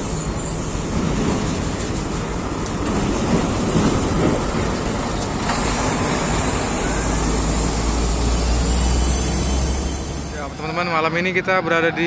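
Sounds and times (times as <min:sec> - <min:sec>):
heavy vehicle engines running: 0:00.0 - 0:12.0
traffic noise: 0:00.0 - 0:12.0.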